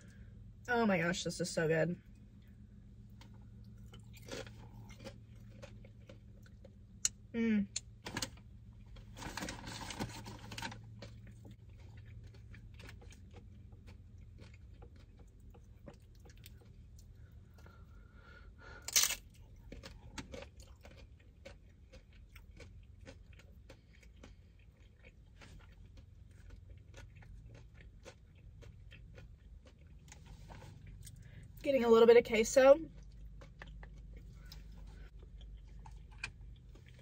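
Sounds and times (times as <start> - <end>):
person chewing food: 2.0 - 31.6, 32.8 - 37.0.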